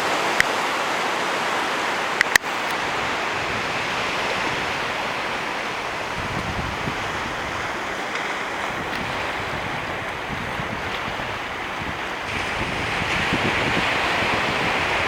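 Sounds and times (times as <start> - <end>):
wind blowing across microphone: 2.2 - 15.0.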